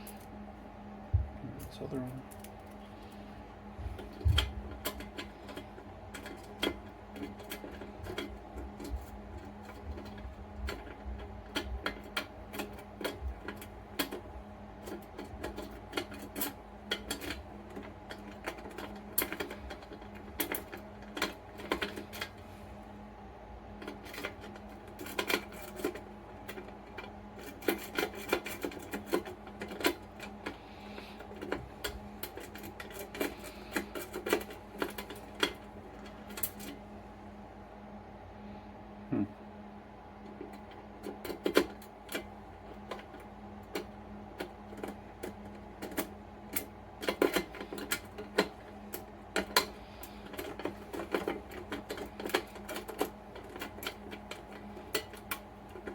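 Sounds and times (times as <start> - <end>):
lock picks scraping and clicking: 4.1 - 22.4, 23.8 - 30.6, 31.2 - 36.8, 40.4 - 55.9.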